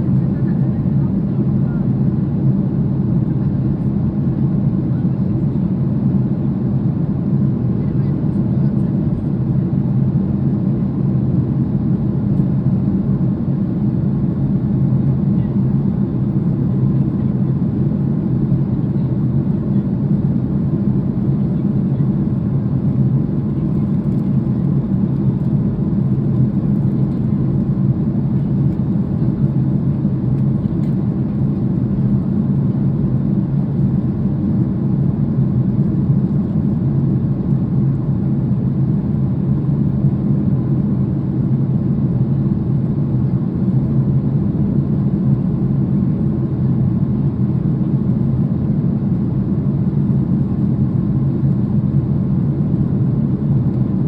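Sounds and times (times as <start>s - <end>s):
jet cabin rumble: 0.0s - 54.0s.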